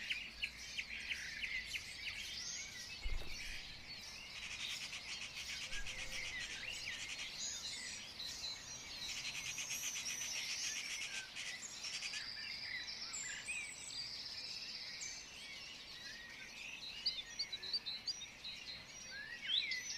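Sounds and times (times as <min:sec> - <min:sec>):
birds chirping and trilling: 0:00.0 - 0:19.9.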